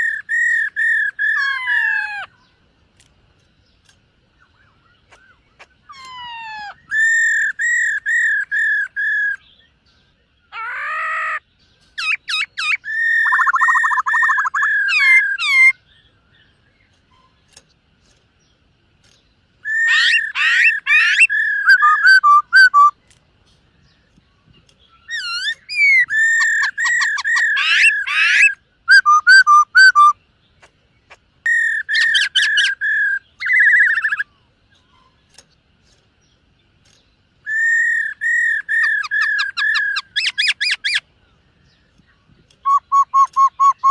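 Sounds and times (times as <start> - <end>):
bird whistling song: 0.0 - 2.6, 3.6 - 17.6, 19.0 - 23.1, 23.8 - 35.4, 36.9 - 43.9.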